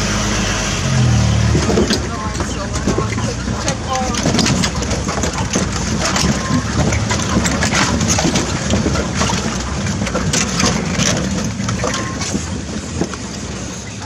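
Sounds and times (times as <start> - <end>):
vehicle engine running: 0.0 - 14.0
vehicle clattering and knocking: 1.0 - 14.0.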